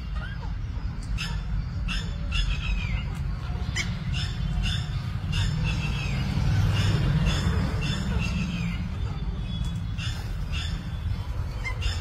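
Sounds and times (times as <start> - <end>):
parakeets calling: 0.0 - 12.0.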